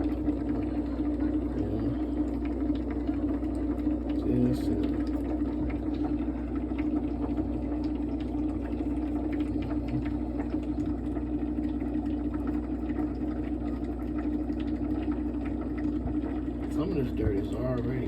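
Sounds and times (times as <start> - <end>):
small motor humming: 0.0 - 18.0.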